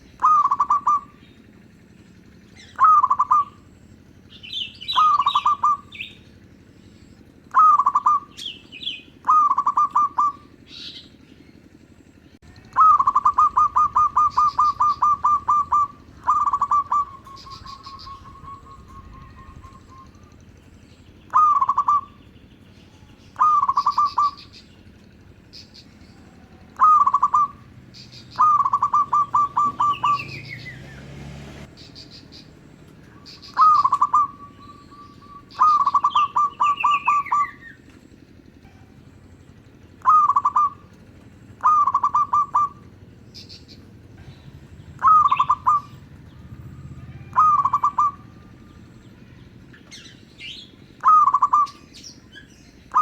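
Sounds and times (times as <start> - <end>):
dove cooing: 0.0 - 11.6, 12.4 - 53.0
small birds chirping: 0.0 - 53.0.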